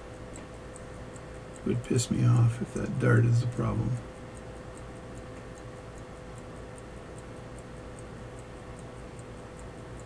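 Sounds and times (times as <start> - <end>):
pocket watch ticking: 0.1 - 10.0.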